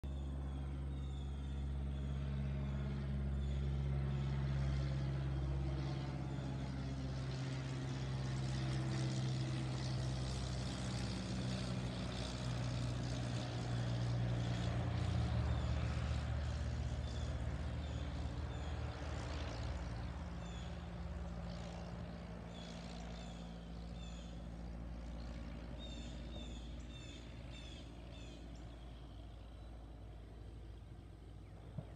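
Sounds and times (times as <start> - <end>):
propeller plane flying over: 0.0 - 31.9.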